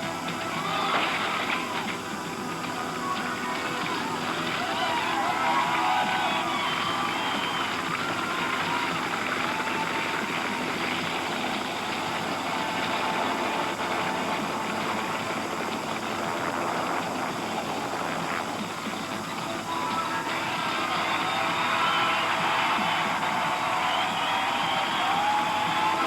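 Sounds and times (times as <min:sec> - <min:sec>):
crane engine running: 0:00.0 - 0:26.0
faint distant voices: 0:00.0 - 0:26.0.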